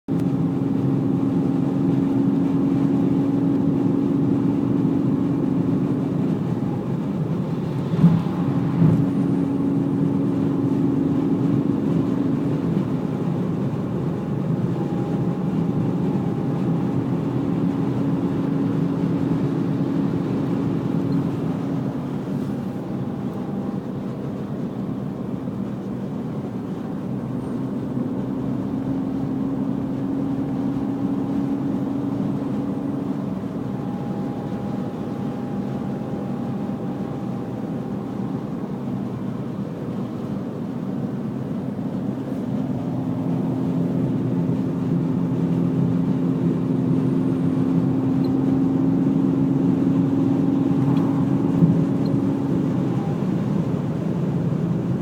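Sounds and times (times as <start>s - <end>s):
car engine running: 0.0s - 55.0s
steady whine: 0.1s - 55.0s.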